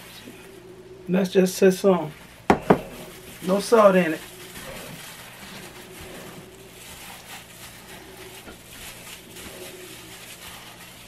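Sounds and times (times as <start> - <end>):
faint steady hum: 0.0 - 11.0
gloved hands squishing raw chicken: 1.6 - 11.0.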